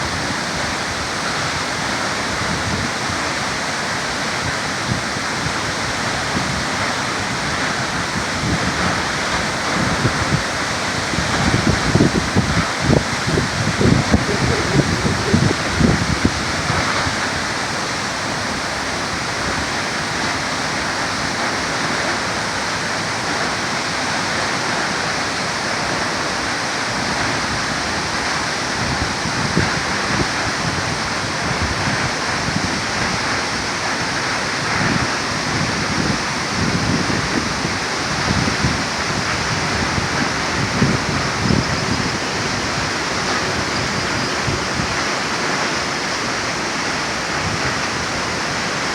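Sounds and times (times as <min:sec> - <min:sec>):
low water rumbles: 0:00.0 - 0:48.9
waterfall rushing: 0:00.0 - 0:48.9.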